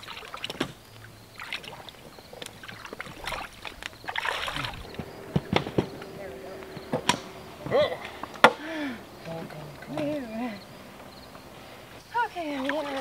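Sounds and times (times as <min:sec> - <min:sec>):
splashing in shallow water: 0:00.0 - 0:13.0.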